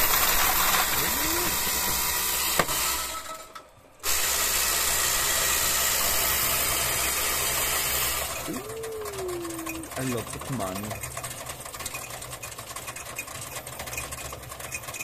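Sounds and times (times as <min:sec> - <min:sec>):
coin-counting machine whirring: 0:00.0 - 0:01.9, 0:04.2 - 0:15.0.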